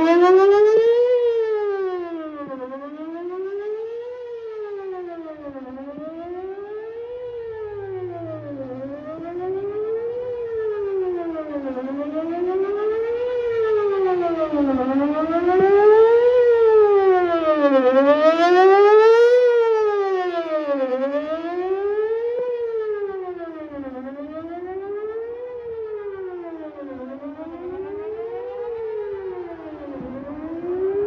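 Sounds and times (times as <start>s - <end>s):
warning siren wailing: 0.0s - 31.0s.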